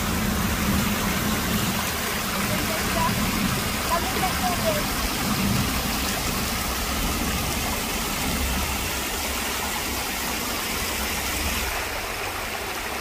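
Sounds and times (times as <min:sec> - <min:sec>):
low water rumble: 0:00.0 - 0:13.0
stream rushing over rocks: 0:00.0 - 0:13.0.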